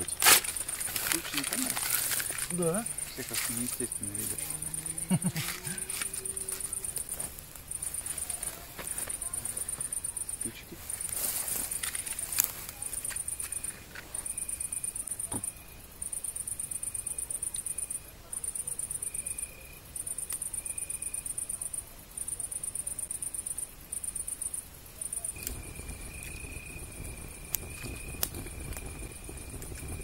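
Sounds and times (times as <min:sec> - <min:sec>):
crickets chirping: 0:00.0 - 0:30.0
lower insect tone: 0:00.0 - 0:30.0.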